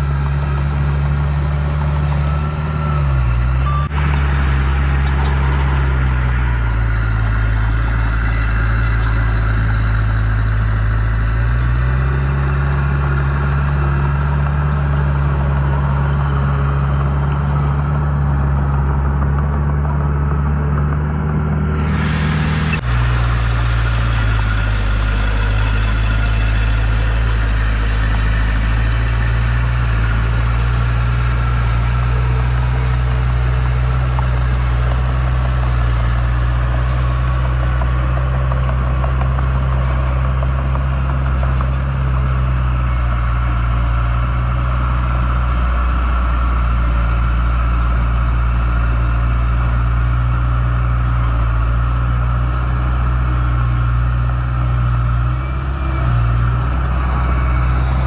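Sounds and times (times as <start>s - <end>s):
diesel engine running at low revs: 0.0s - 58.0s.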